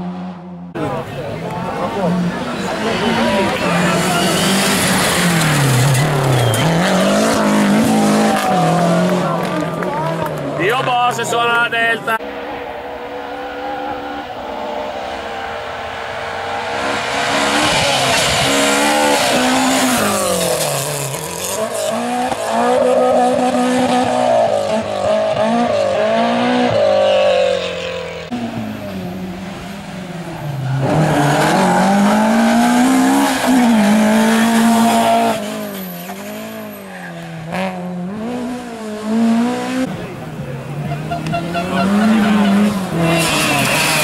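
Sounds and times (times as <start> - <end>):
rally car engine revving hard: 1.7 - 10.9, 13.2 - 28.6, 30.6 - 44.0.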